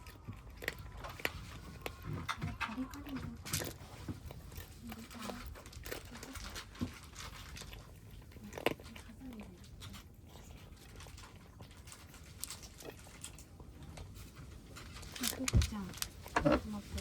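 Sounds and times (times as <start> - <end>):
kittens crunching dry food: 0.0 - 17.0.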